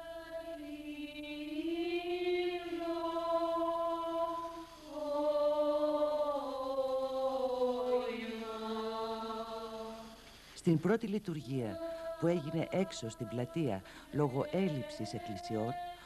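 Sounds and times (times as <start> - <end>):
church chant: 0.0 - 16.0.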